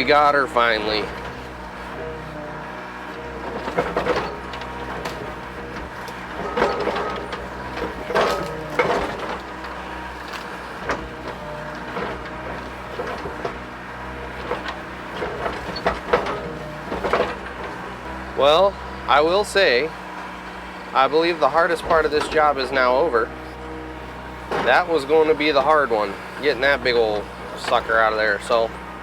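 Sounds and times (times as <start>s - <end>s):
diesel engine running: 0.0s - 29.0s
machine clunks and knocks: 0.9s - 18.4s, 19.3s - 28.6s.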